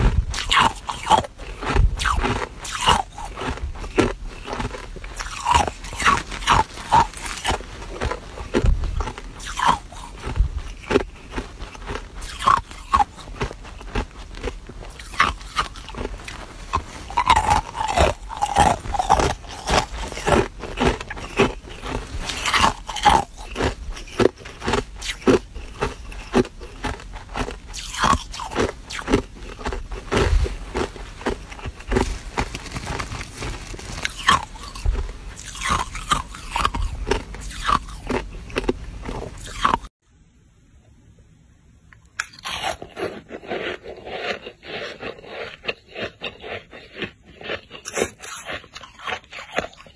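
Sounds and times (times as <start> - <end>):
ice cubes crunching: 0.0 - 39.9, 42.2 - 49.9
soft crunching and scraping: 0.0 - 39.9, 42.2 - 49.9.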